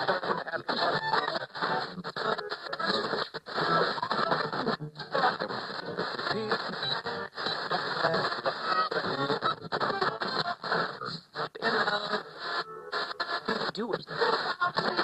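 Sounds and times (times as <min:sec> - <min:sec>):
music from radio: 0:00.0 - 0:15.0
radio tuning between stations: 0:00.0 - 0:15.0
talk from radio: 0:02.0 - 0:12.4, 0:13.0 - 0:15.0.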